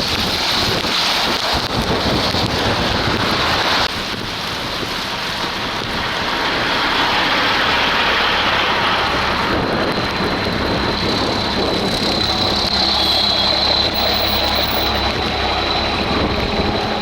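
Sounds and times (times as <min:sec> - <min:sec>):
rain: 0:00.0 - 0:17.0
road traffic with low rumble: 0:00.0 - 0:17.0
wind: 0:00.0 - 0:17.0.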